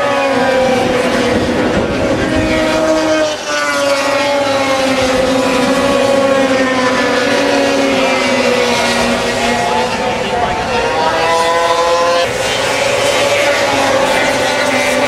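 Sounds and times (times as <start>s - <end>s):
snowmobile engines racing past: 0.0s - 15.0s.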